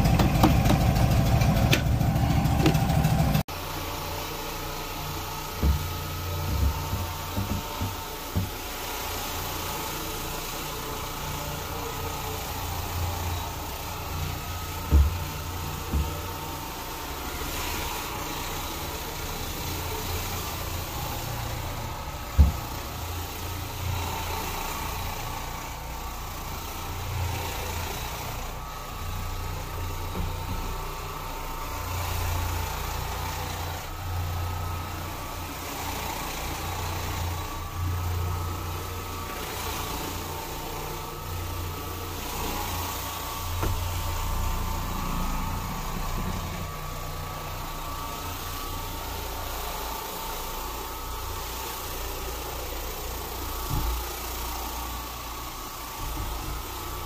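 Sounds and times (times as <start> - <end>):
carpet cleaning machine humming: 0.0 - 57.0.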